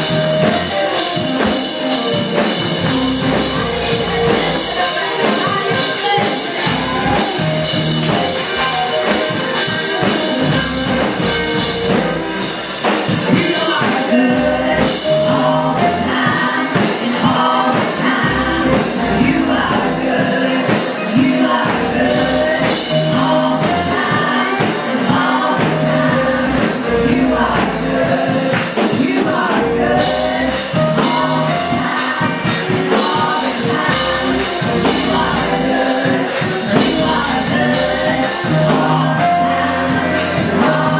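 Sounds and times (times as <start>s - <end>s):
live band playing: 0.0s - 40.9s
voices singing gospel: 0.0s - 40.9s.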